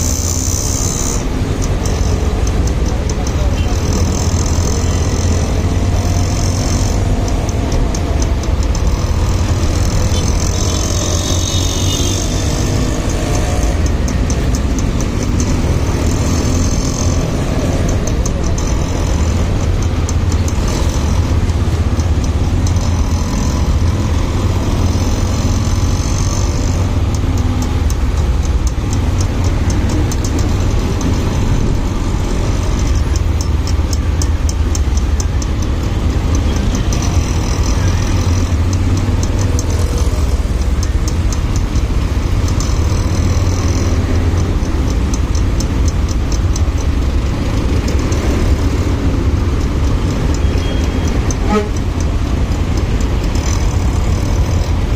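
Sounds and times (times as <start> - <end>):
motorcycle engine: 0.0 - 54.9.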